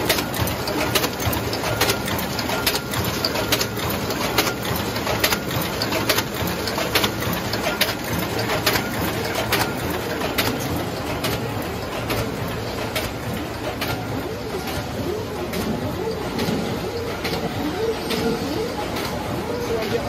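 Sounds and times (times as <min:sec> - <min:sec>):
paper bag machine running: 0:00.0 - 0:20.0
repeating sharp machine click: 0:00.0 - 0:20.0.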